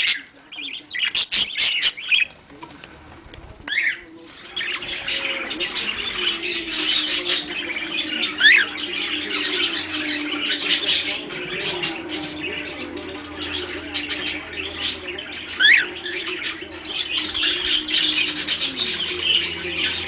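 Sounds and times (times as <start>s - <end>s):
budgerigars chirping and warbling: 0.0s - 2.4s, 3.6s - 20.0s.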